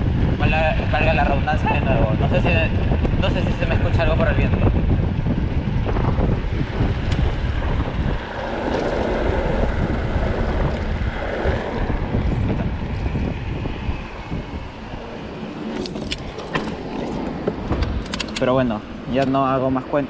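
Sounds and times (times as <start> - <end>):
wind blowing across microphone: 0.0 - 20.0.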